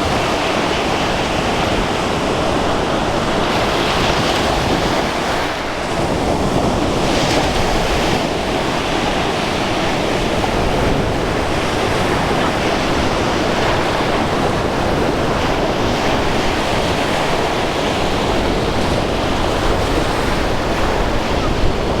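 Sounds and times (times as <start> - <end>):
sea waves washing on shore: 0.0 - 22.0
wind buffeting microphone: 0.0 - 22.0.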